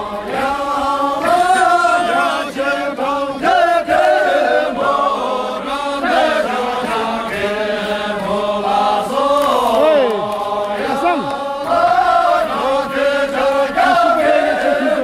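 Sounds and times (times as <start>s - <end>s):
group singing in unison: 0.0s - 15.0s.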